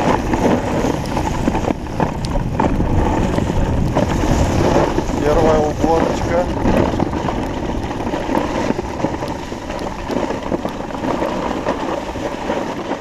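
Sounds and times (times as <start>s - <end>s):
skis scraping over snow: 0.0s - 13.0s
wind rumbling on microphone: 0.0s - 13.0s.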